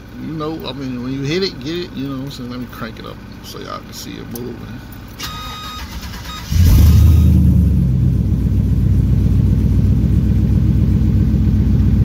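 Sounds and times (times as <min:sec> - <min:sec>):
car engine starting and idling: 0:00.0 - 0:12.0.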